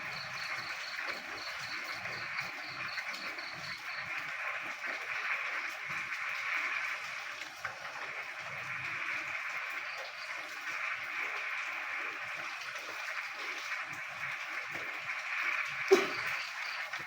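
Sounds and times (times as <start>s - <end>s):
frogs croaking: 0.0s - 17.0s
rain hiss: 0.0s - 17.0s.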